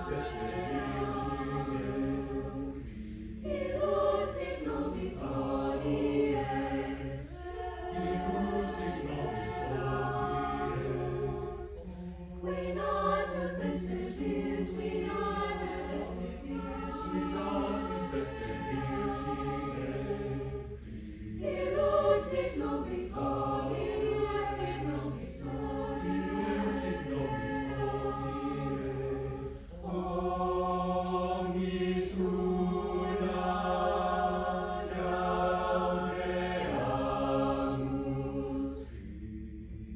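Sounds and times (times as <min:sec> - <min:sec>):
choir singing held phrases: 0:00.0 - 0:39.9.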